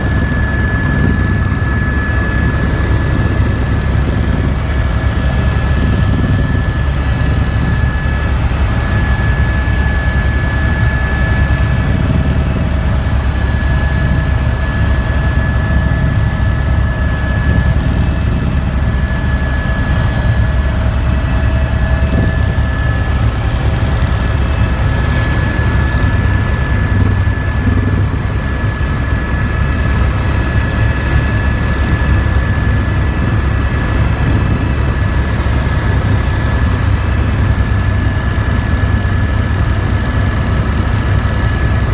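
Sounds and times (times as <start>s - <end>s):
helicopter engine and rotor: 0.0s - 41.9s.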